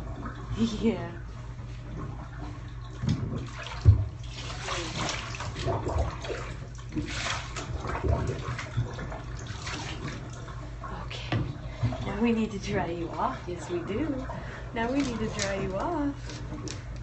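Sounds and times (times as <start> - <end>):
bathwater sloshing and splashing: 0.0 - 17.0.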